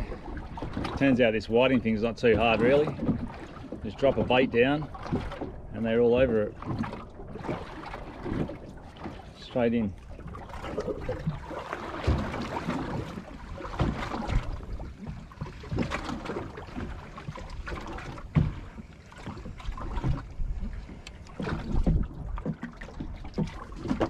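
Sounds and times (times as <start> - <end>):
water slapping boat hull: 0.0 - 24.0.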